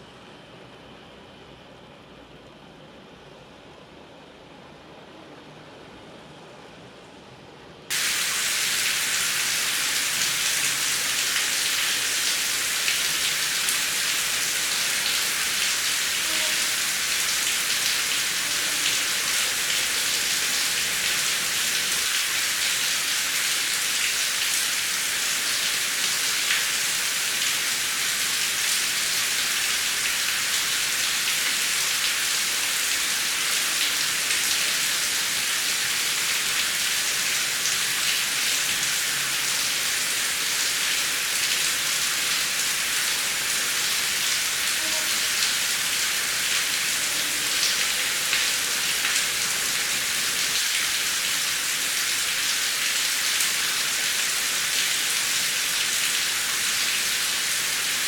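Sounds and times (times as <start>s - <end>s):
heavy rain falling: 7.9s - 58.0s.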